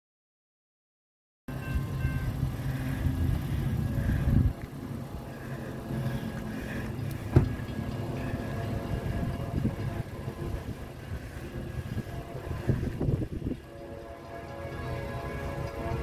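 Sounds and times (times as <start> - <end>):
engine rumbling: 1.5 - 16.0.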